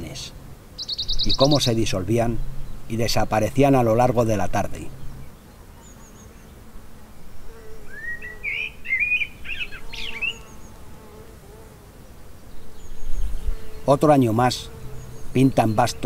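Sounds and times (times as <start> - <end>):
faint steady buzz: 0.0 - 16.0
songbird singing: 0.0 - 16.0.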